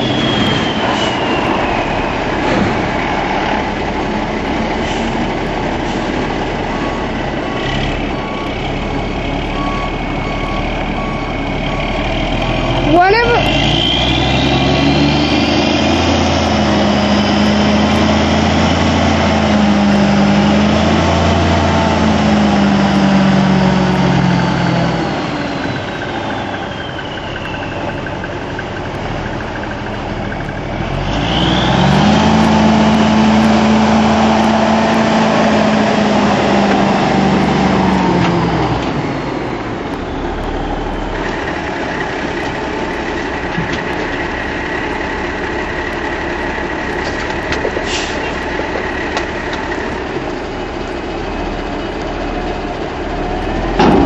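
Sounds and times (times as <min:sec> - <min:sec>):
diesel truck engine pulling: 0:00.0 - 0:54.0.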